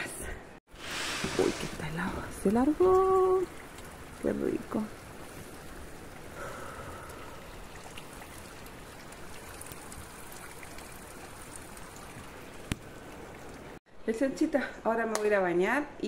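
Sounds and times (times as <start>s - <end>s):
steady rain hiss: 0.7s - 13.8s.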